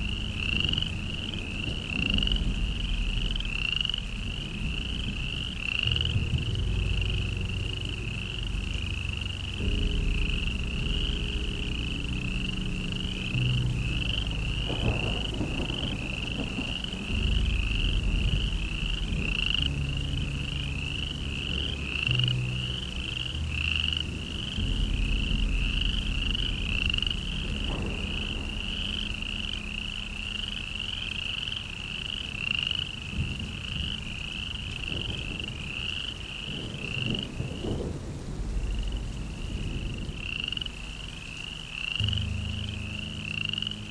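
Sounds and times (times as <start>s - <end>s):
low drone: 0.0s - 43.9s.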